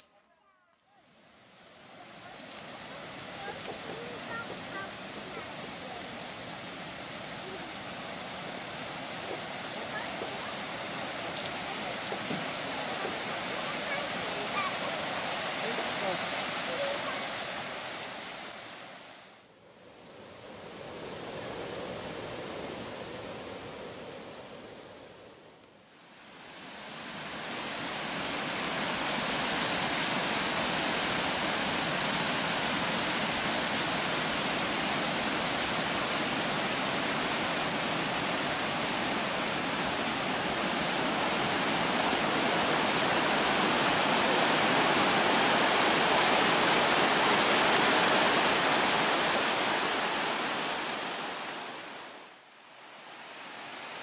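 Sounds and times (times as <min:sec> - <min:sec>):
stream water rushing over rocks: 0:01.2 - 0:19.4, 0:26.0 - 0:54.0.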